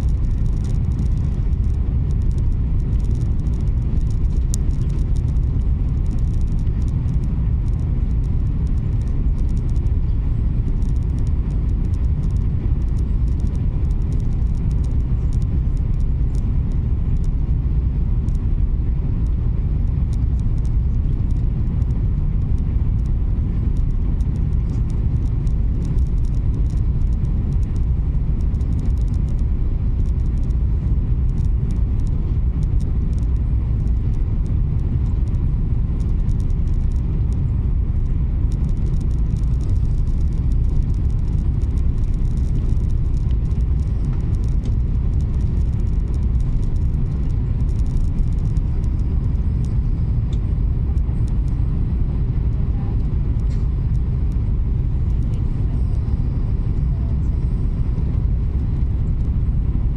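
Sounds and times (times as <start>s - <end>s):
train rumbling inside cabin: 0.0s - 59.9s.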